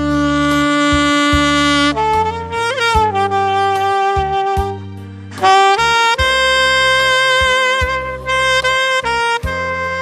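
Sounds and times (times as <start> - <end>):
backing track with bass: 0.0 - 10.0
saxophone melody: 0.0 - 10.0.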